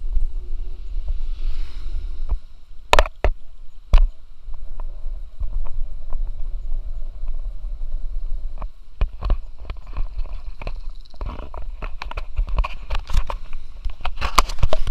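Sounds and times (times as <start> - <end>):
wind rumble on microphone: 0.0 - 14.9.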